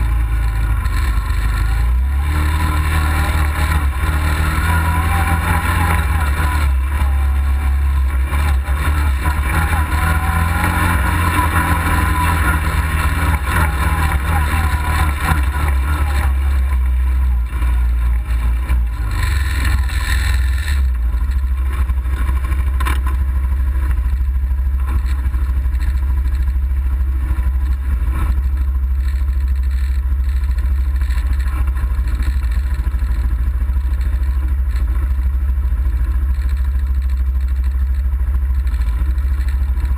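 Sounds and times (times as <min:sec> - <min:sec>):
heavy low rumble: 0:00.0 - 0:39.9
off-road vehicle engine running: 0:00.0 - 0:39.9.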